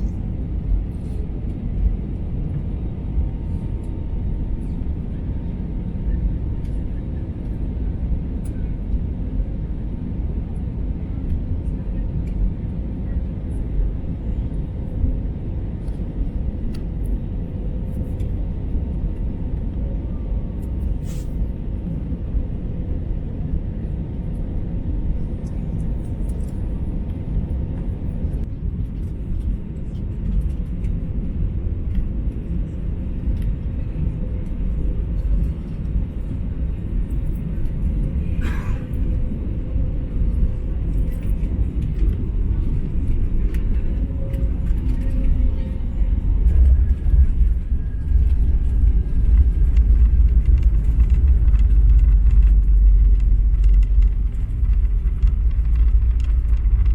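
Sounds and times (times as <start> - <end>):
airliner engines rumbling: 0.0 - 56.9.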